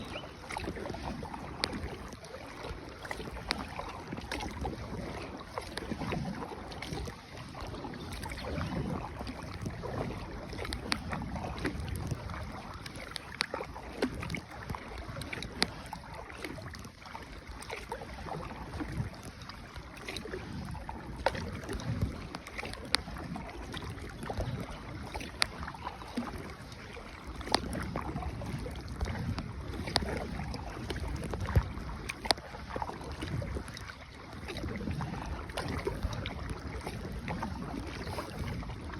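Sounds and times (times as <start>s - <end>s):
paddles splashing in water: 0.0s - 38.9s
wind on microphone: 0.0s - 38.9s.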